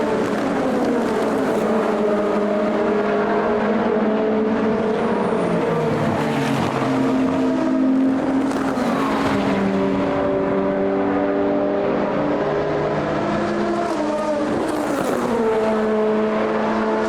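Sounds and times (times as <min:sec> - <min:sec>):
race car engines passing by: 0:00.0 - 0:17.0.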